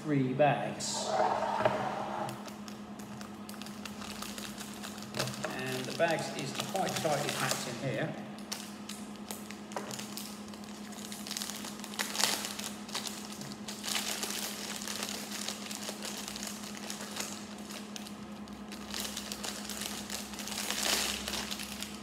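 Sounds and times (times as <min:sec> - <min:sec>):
plastic bag crinkling: 0:02.3 - 0:07.7, 0:08.4 - 0:22.0.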